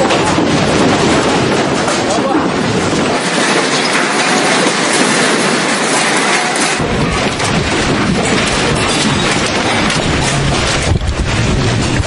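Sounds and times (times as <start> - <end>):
deep rumble: 0.0 - 12.0
floodwater rushing roar: 0.0 - 12.0.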